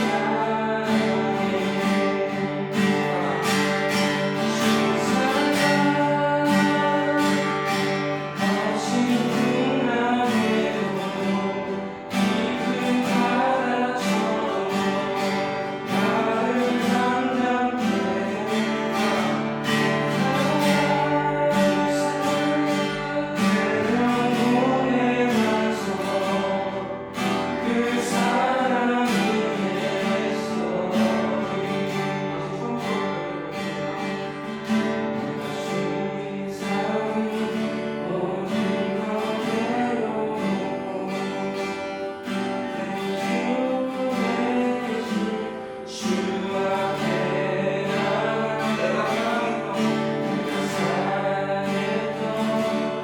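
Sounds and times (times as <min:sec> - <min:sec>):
person singing worship song: 0:00.0 - 0:53.0
strummed acoustic guitar: 0:00.0 - 0:53.0.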